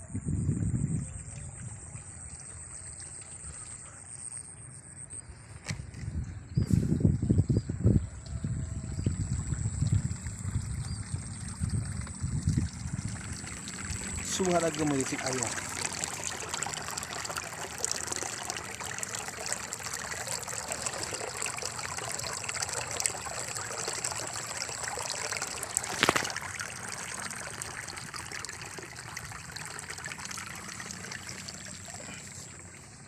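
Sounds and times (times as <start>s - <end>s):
water trickling: 0.3s - 4.4s, 6.9s - 33.0s.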